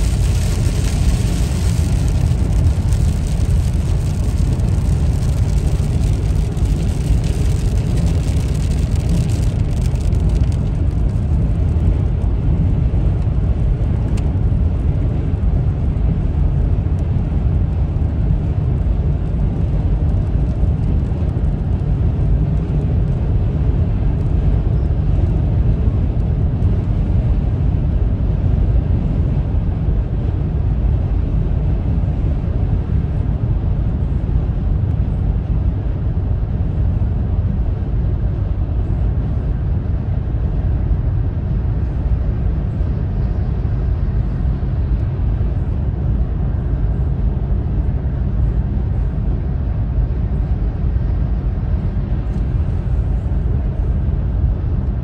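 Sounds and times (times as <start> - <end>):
car interior road rumble: 0.0 - 55.0.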